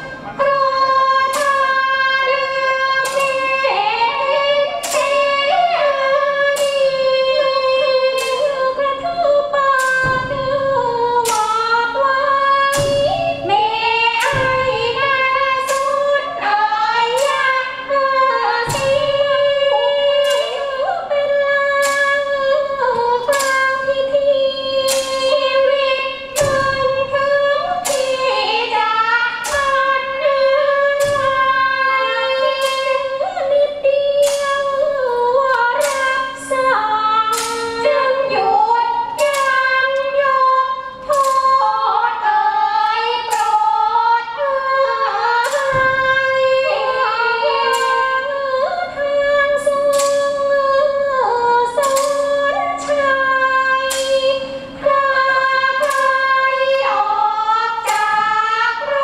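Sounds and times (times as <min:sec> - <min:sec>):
sharp percussion strikes: 0:00.0 - 0:59.0
woman singing: 0:00.0 - 0:59.0.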